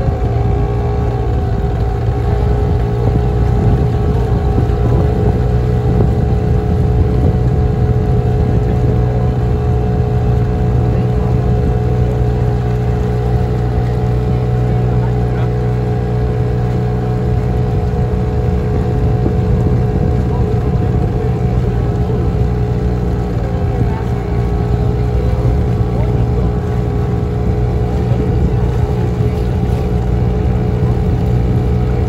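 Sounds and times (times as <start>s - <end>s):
engine droning steadily: 0.0s - 32.0s.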